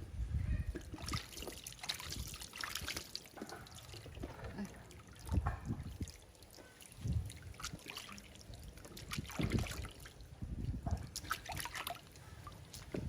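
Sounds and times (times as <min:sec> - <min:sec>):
water dripping: 0:00.7 - 0:13.0
bath water splashing and sloshing: 0:00.8 - 0:13.0.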